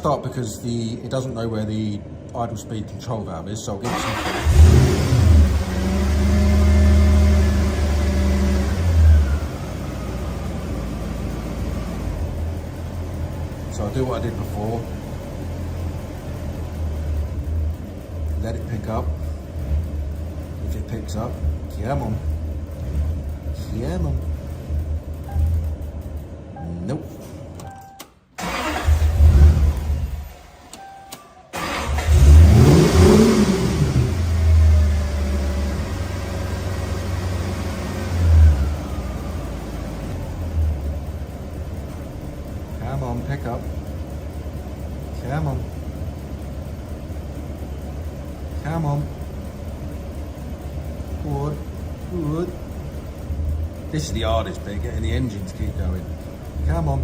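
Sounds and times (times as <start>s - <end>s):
car engine revving and stalling: 3.8s - 26.2s, 28.4s - 30.8s, 31.5s - 57.0s.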